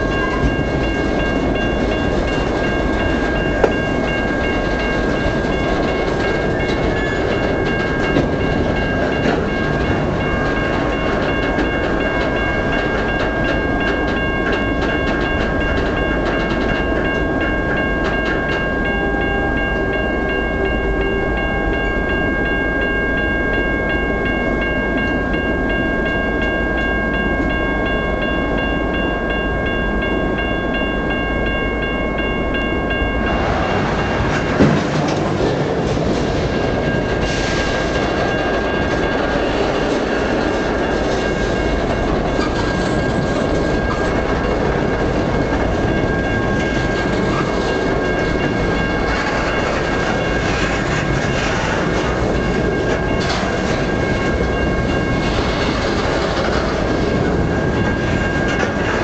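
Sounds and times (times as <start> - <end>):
steel wheels rumbling on rails: 0.0 - 59.0.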